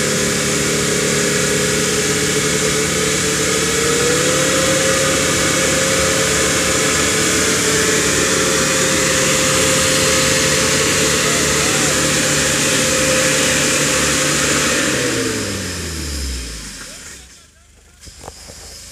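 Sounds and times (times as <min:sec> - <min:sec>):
truck engine at low revs: 0:00.0 - 0:18.9.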